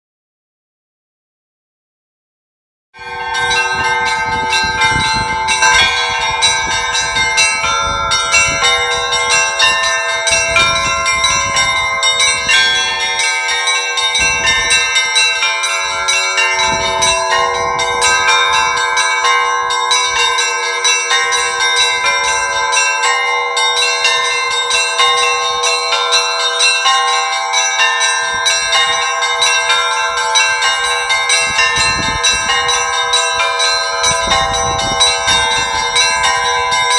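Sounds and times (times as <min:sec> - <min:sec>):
church bells pealing: 0:03.0 - 0:36.9.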